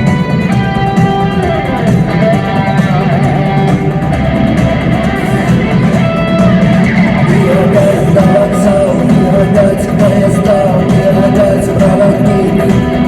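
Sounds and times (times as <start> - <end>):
bass guitar: 0.0 - 13.0
drums: 0.0 - 13.0
electric guitar melody: 0.0 - 13.0
strummed guitar: 0.0 - 13.0.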